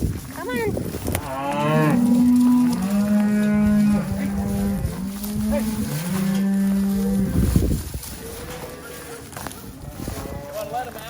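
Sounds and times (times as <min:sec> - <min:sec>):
cattle mooing: 0:01.2 - 0:10.8.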